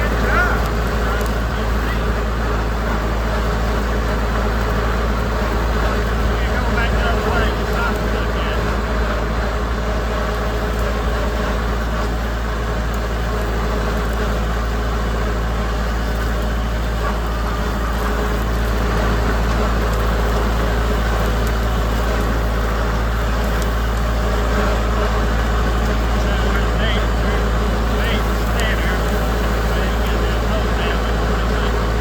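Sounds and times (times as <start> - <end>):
tractor engine running steadily: 0.0 - 32.0.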